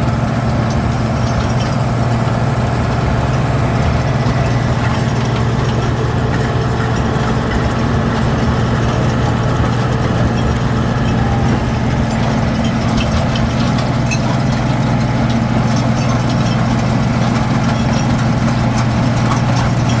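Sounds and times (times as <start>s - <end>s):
diesel engine deep hum: 0.0s - 20.0s.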